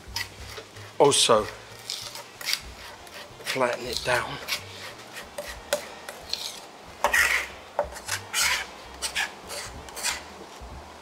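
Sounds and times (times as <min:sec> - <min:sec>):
knife scraping cutting board: 0:00.1 - 0:10.3.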